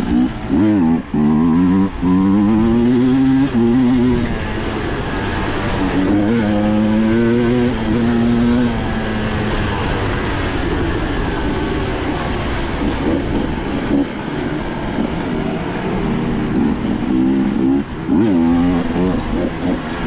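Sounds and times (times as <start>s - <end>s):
dirt bike engine revving: 0.0s - 9.2s, 12.8s - 20.0s.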